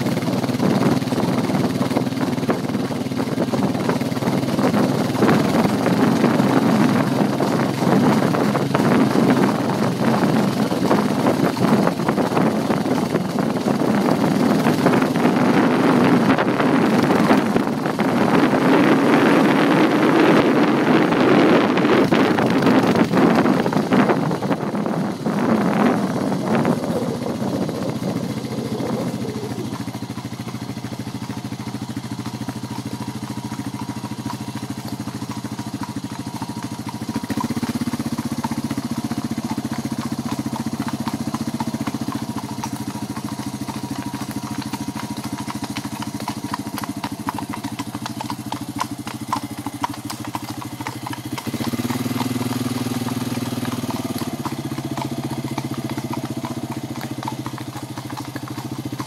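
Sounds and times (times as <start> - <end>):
horse hooves clopping on tarmac: 0.0 - 59.0
vehicle engine running: 0.0 - 59.0.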